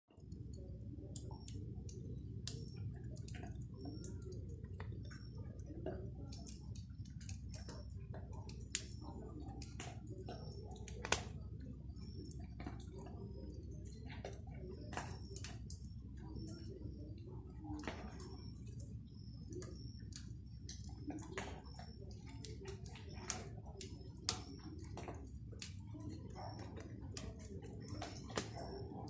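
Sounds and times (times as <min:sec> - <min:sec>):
fire crackling and popping: 0:00.1 - 0:29.0
low fire rumble: 0:00.1 - 0:29.0.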